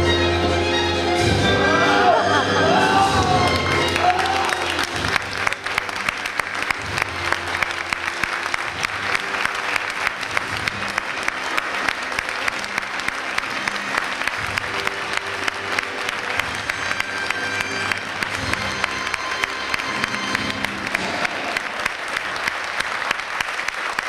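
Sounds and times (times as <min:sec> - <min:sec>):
audience applauding: 0:02.0 - 0:24.0.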